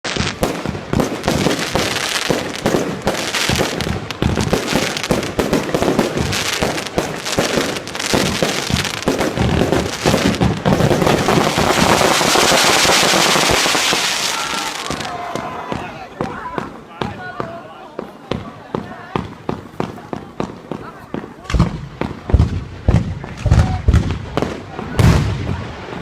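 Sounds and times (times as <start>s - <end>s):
fireworks exploding: 0.0s - 26.0s.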